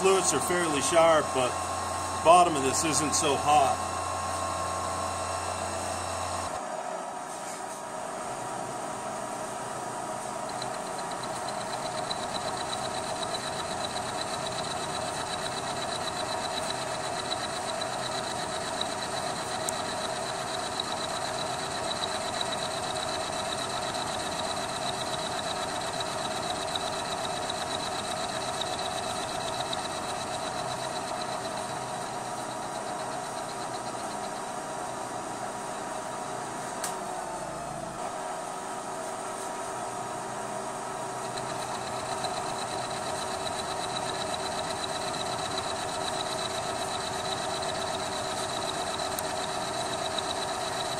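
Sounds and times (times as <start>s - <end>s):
high whine of metal cutting: 0.0s - 6.6s, 10.2s - 35.1s, 40.4s - 50.9s
milling machine drive drone: 0.0s - 6.6s, 9.2s - 38.2s, 40.3s - 50.9s.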